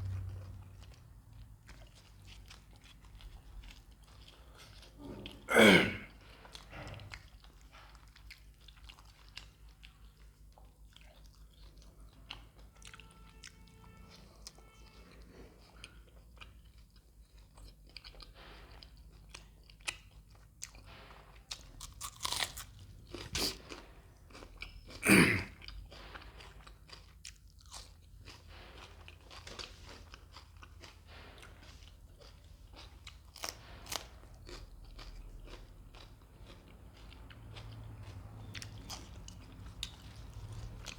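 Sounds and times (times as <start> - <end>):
chewing with crunchy bites: 0.0 - 40.9.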